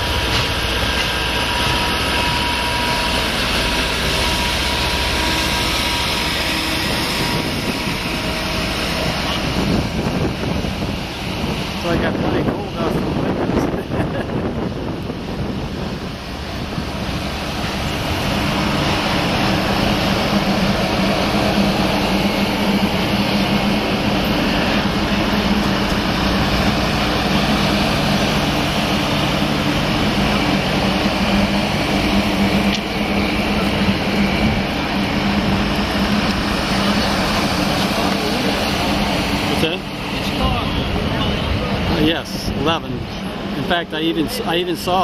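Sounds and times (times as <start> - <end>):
train cars rolling on rails: 0.0 - 45.0.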